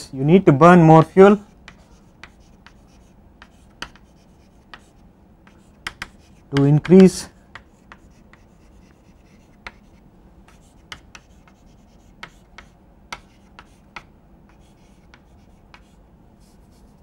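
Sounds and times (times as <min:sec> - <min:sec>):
chalk tapping and scratching: 0:00.9 - 0:17.0.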